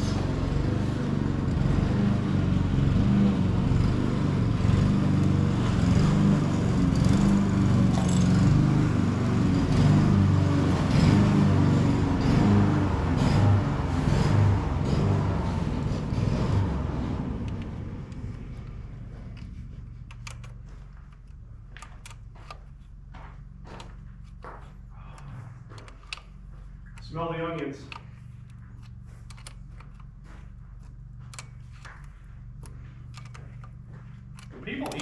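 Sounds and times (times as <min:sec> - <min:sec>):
engine running unevenly: 0:00.0 - 0:35.0.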